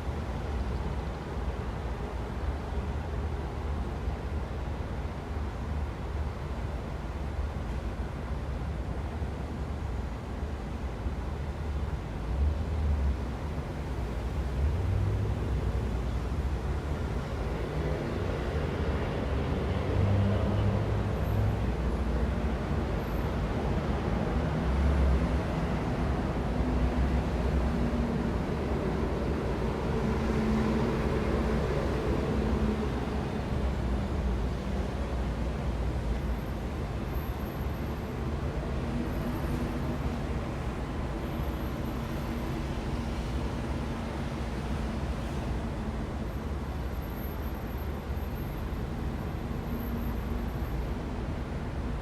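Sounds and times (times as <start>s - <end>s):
city traffic rumble: 0.0s - 52.0s.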